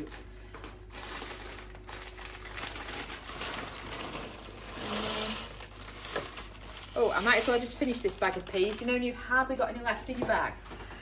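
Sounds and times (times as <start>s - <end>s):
frozen peas rattling: 0.0s - 9.1s
plastic bag crinkling: 0.0s - 9.2s.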